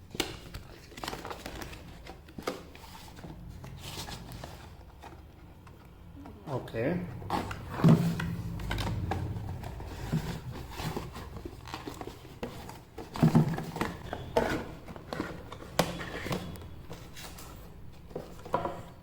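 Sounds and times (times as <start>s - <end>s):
hard plastic packaging clicks and rustles: 0.0s - 6.3s, 7.3s - 19.0s.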